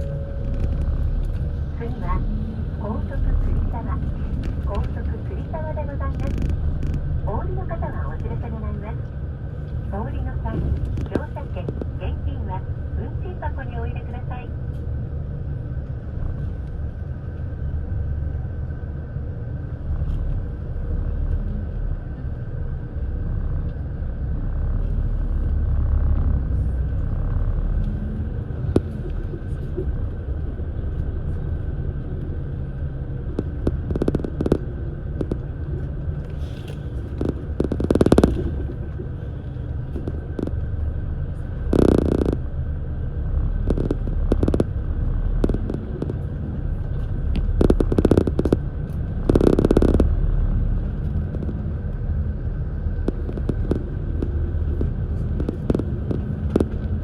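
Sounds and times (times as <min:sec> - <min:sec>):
road vehicle low rumble: 0:00.0 - 0:57.0.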